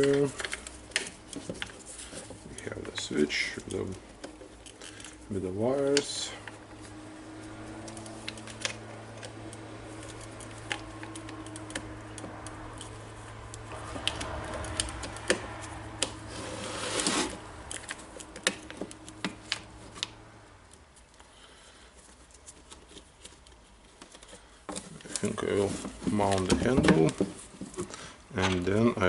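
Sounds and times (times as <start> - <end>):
scraping rustle: 0.0 - 20.2, 21.9 - 29.0
low steady hum: 0.0 - 29.0.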